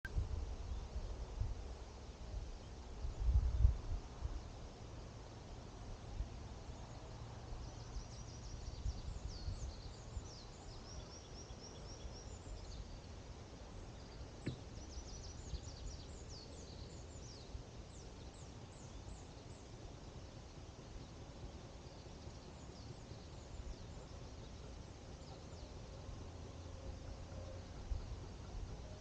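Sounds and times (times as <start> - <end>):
songbirds chirping and trilling: 1.9 - 29.0.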